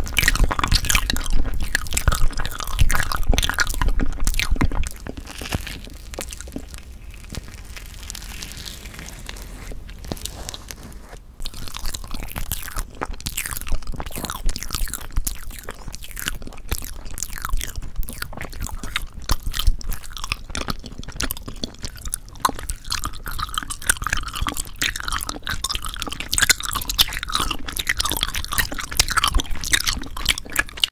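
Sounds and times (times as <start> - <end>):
crunchy bites and chewing: 0.0 - 30.9.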